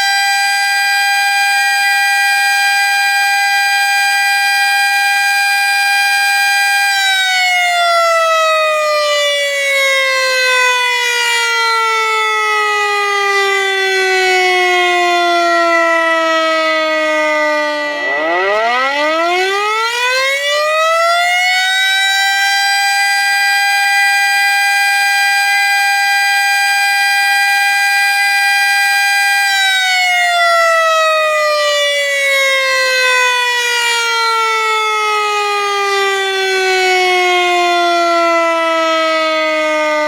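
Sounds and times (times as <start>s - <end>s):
warning siren wailing: 0.0s - 40.0s.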